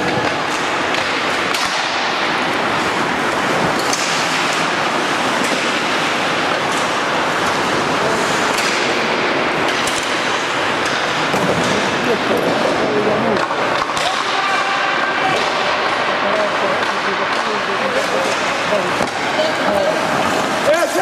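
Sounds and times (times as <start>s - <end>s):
hockey sticks and puck clicking: 0.0s - 21.0s
skate blades scraping ice: 0.0s - 21.0s.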